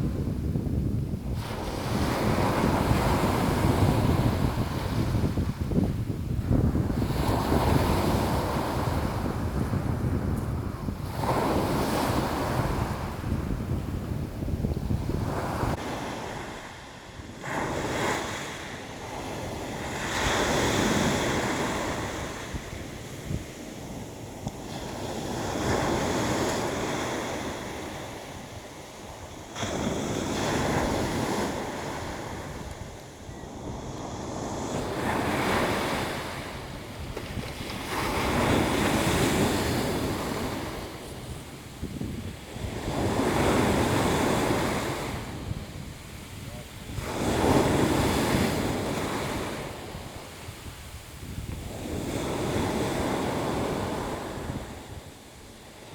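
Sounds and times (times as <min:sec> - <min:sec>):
sea waves surging and washing: 0:00.0 - 0:55.9
wind rumbling on microphone: 0:00.0 - 0:55.9.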